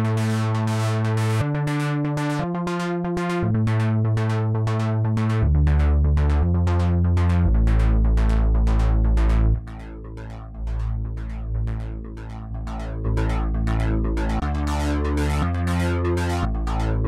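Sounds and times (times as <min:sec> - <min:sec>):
deep synth bass line: 0:00.0 - 0:17.0
pulsing synth pattern: 0:00.0 - 0:17.0.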